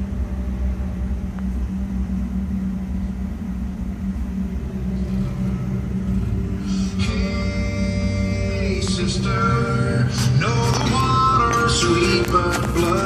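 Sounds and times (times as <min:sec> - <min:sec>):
subwoofers playing deep bass: 0:00.0 - 0:13.0.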